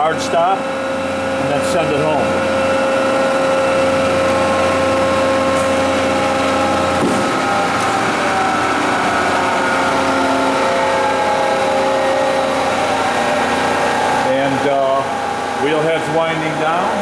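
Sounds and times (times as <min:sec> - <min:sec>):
surface grinder humming: 0:00.0 - 0:17.0.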